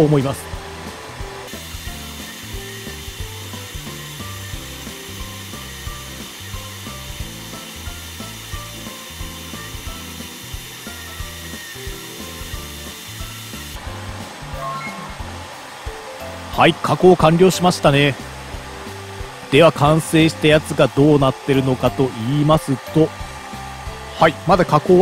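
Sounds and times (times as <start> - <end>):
rushing fan hiss: 0.0 - 25.0
stepper motors humming: 0.0 - 25.0.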